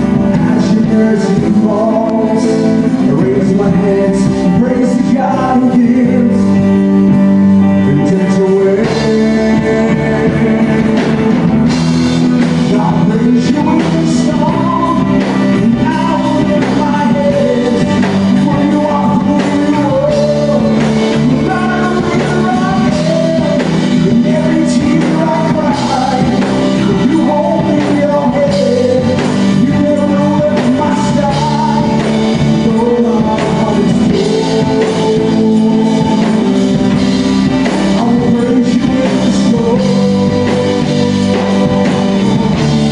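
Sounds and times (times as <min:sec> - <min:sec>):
gospel band music: 0:00.0 - 0:42.9
person singing: 0:00.0 - 0:42.9.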